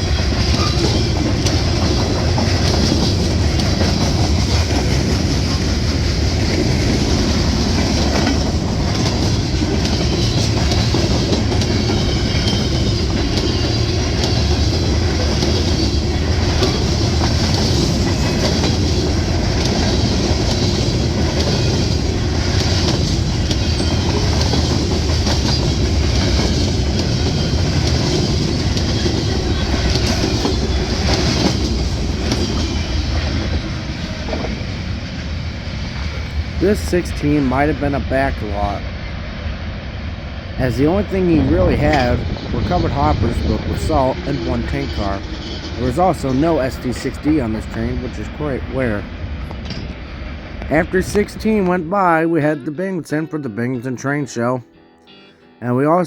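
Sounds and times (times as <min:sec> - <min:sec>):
freight train wheels clicking: 0:00.0 - 0:38.9, 0:40.0 - 0:52.0.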